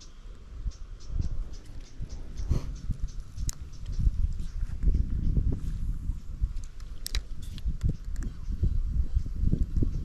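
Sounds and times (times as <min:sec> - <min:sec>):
wind buffeting the microphone: 0:00.0 - 0:10.0.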